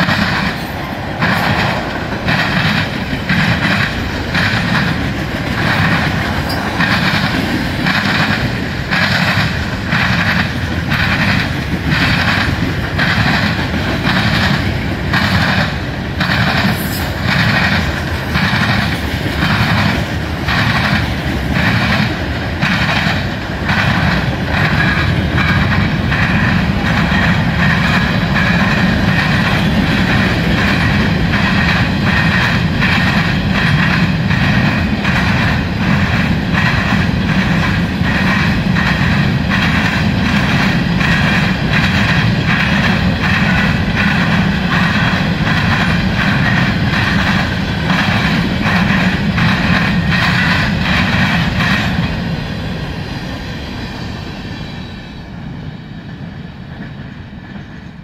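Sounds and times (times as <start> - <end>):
wheels clicking over rail joints: 0.0 - 52.4
steel wheels rumbling on rail: 0.0 - 58.0.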